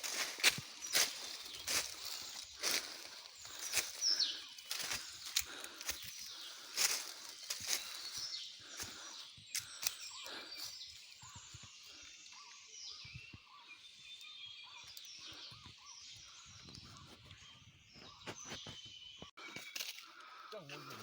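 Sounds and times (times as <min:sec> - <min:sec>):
birds chirping and warbling: 0:00.0 - 0:21.0.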